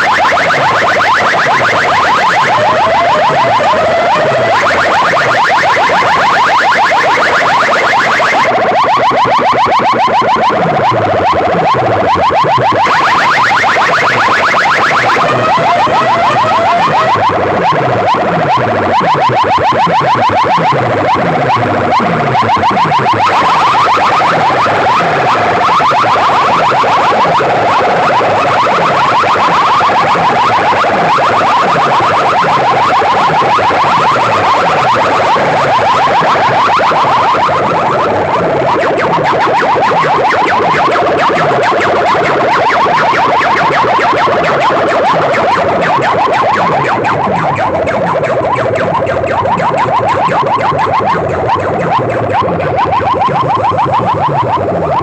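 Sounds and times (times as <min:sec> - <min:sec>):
electronic siren-like chirping: 0:00.0 - 0:55.0
deep falling electronic sweeps: 0:10.1 - 0:54.8.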